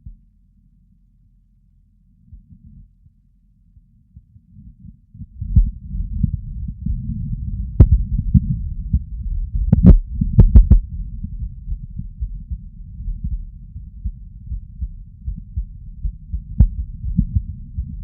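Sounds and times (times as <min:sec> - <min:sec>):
muffled heartbeat: 0:00.0 - 0:00.3, 0:02.2 - 0:18.0.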